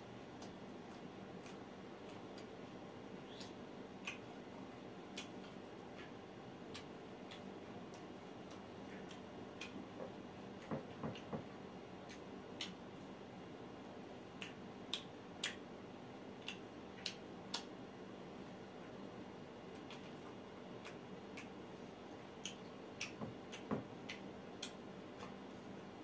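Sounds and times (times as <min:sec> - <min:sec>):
man chewing with smacking clicks: 0:00.3 - 0:13.0, 0:14.3 - 0:15.7, 0:16.4 - 0:17.8, 0:19.7 - 0:25.9.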